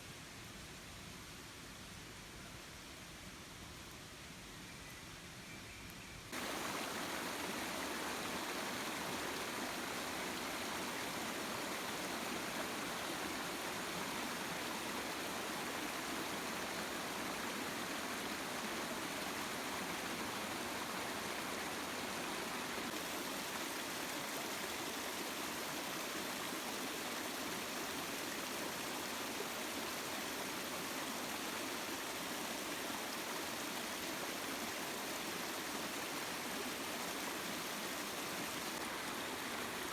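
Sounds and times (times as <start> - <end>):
river water flowing: 6.3 - 39.9.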